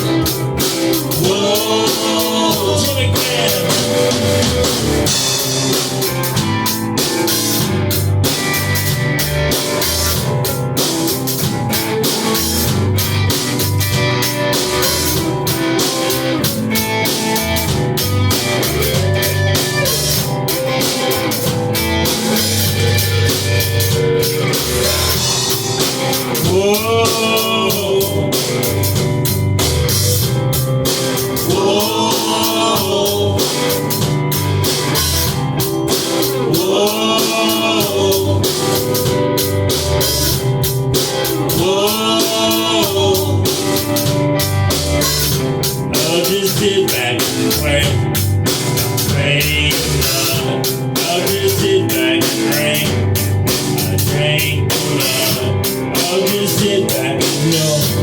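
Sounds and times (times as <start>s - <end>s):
drum kit beat: 0.0s - 58.0s
electric guitar and bass: 0.0s - 58.0s
wailing lead guitar line: 0.0s - 58.0s.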